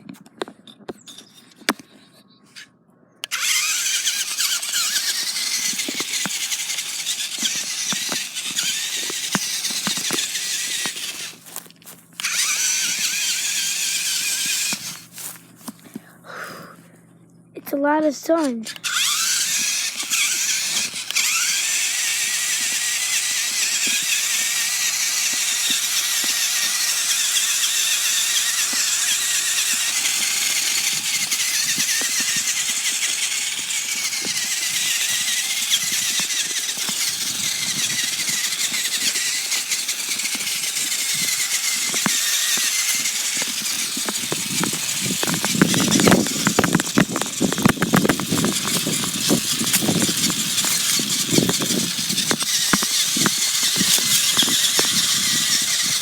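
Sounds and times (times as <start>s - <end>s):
rc car motor whining: 1.0s - 1.9s, 2.6s - 16.7s, 18.4s - 56.0s
rattling clicks: 3.2s - 15.1s, 18.6s - 56.0s.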